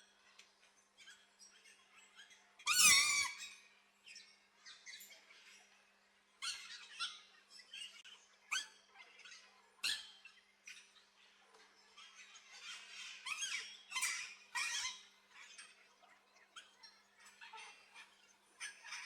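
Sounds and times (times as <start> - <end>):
birds chirping and squeaking: 0.2 - 19.0.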